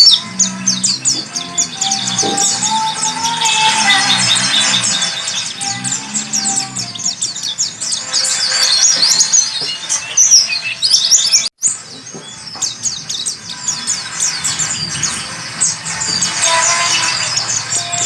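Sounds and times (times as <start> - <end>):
bird twittering and trilling: 0.0 - 18.0.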